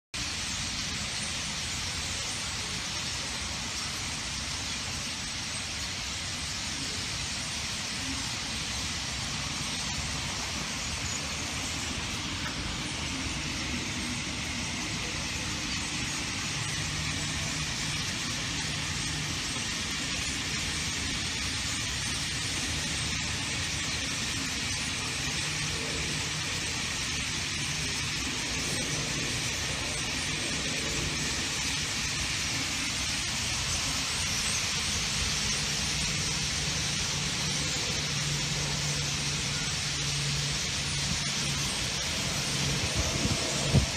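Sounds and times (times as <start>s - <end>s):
city traffic rumble: 0.2s - 43.9s
starlings chattering: 0.2s - 43.9s.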